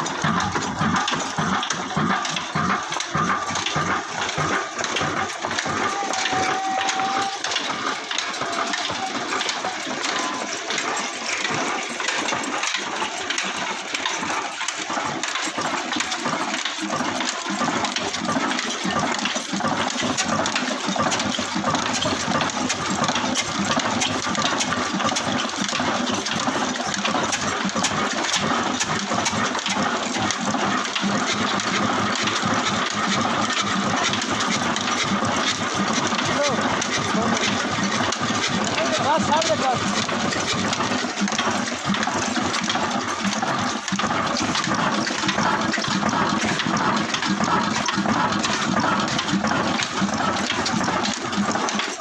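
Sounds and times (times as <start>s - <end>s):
diesel engine clattering: 0.0s - 52.0s.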